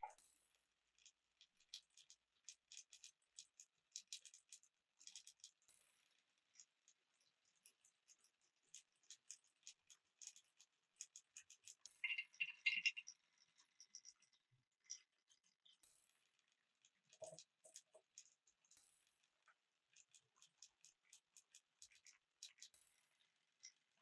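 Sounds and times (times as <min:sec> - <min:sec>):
light clicks of small hard objects: 0:00.0 - 0:24.0.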